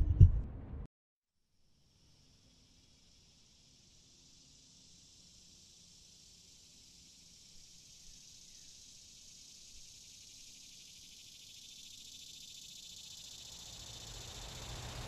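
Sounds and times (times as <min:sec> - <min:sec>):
crickets trilling: 0:01.8 - 0:15.0.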